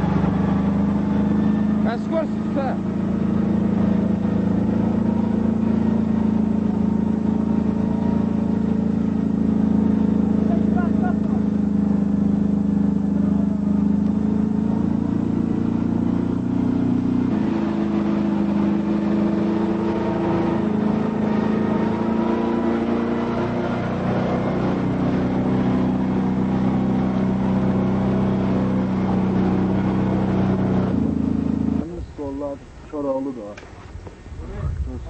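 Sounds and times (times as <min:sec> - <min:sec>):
truck engine straining: 0:00.0 - 0:34.4.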